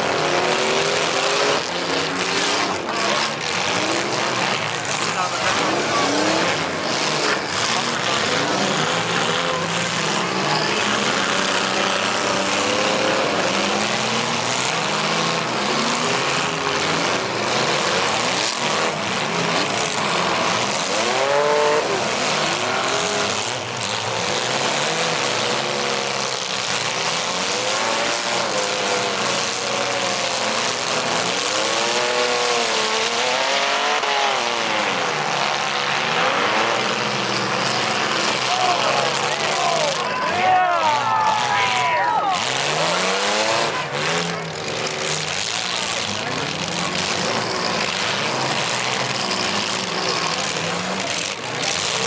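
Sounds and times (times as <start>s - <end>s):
car engines revving hard: 0.0s - 52.0s.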